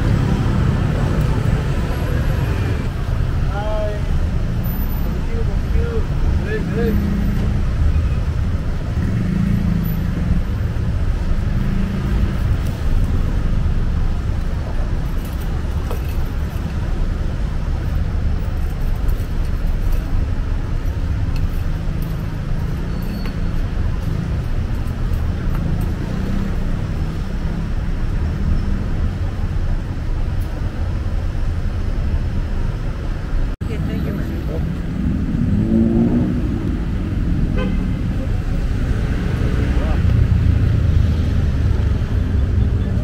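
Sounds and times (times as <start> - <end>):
passing cars rumbling: 0.0 - 43.0.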